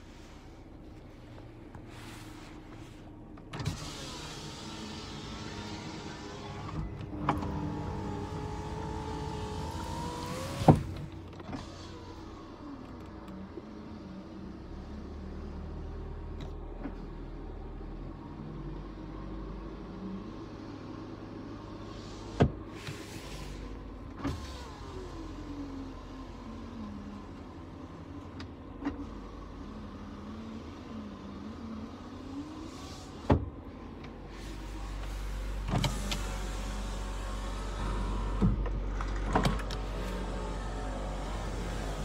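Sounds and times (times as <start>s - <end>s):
car engine hum: 0.0s - 42.0s.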